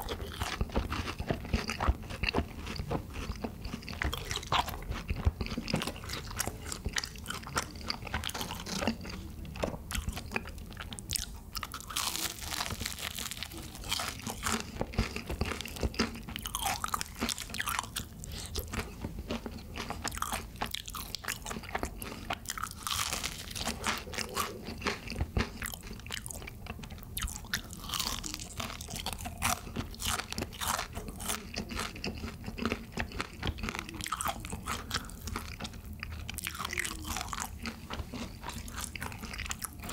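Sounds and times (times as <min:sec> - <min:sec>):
crunching fried chicken: 0:00.0 - 0:39.9.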